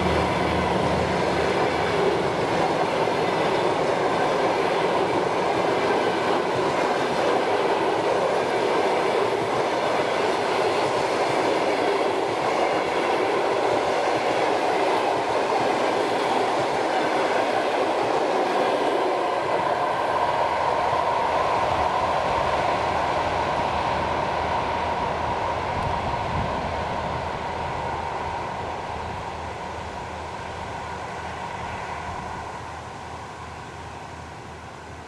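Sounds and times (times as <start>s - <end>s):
train wheels rolling on rails: 0.0s - 35.0s.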